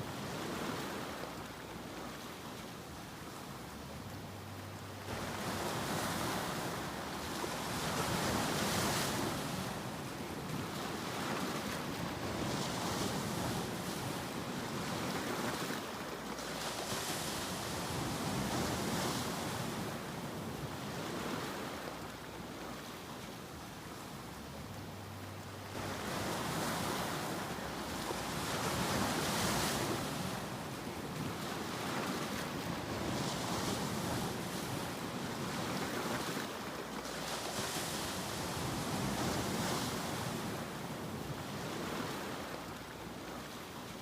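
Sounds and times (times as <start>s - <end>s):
ocean waves breaking: 0.0s - 44.0s.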